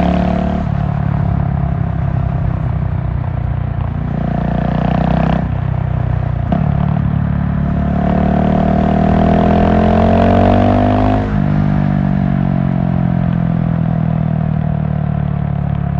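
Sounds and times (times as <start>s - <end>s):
motorcycle engine accelerating: 0.0s - 15.9s.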